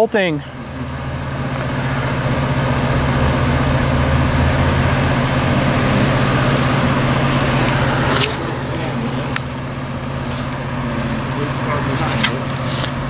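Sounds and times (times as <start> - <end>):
street noise: 0.0 - 13.0
vehicle engine humming: 0.0 - 13.0.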